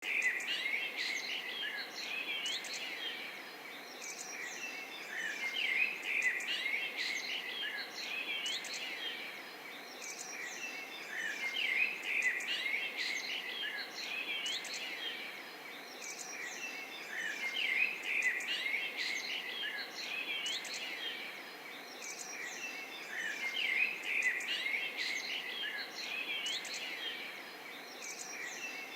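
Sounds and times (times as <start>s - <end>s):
small birds chirping: 0.0s - 28.9s
steady background hiss: 0.0s - 28.9s.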